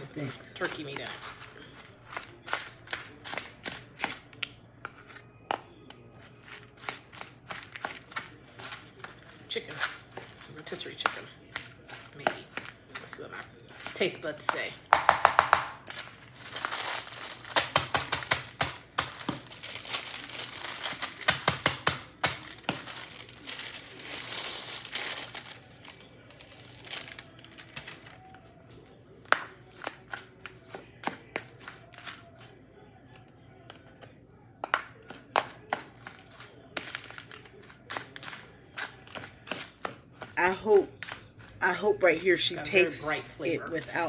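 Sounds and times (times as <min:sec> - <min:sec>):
spoon stirring crackers in bowl: 0:00.0 - 0:44.0.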